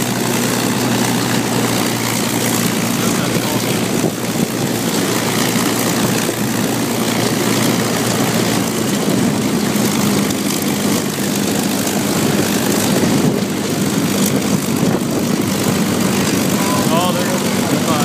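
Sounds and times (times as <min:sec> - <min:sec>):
propeller engine drone: 0:00.0 - 0:18.0.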